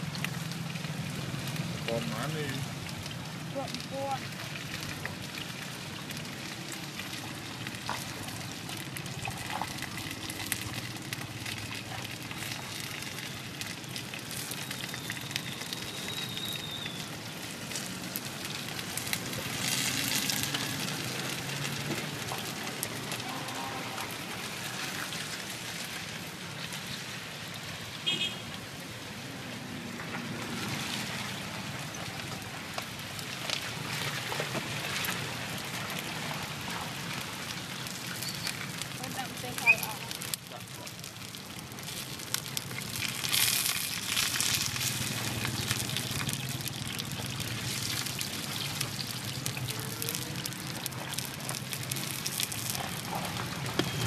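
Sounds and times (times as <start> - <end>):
food sizzling in oil: 0.0 - 29.4, 30.3 - 54.0.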